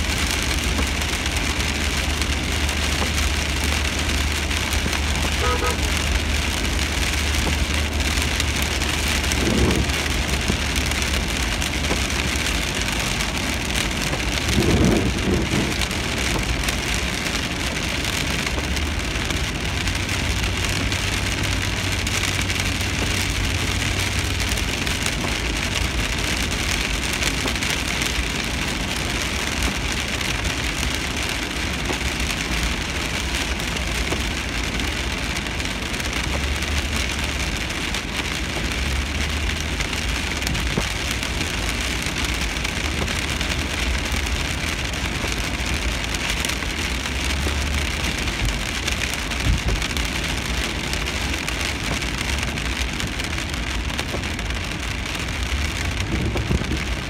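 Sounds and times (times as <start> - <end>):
car engine hum: 0.0 - 57.0
rain hissing on car roof: 0.0 - 57.0
tyres on wet road: 0.0 - 57.0.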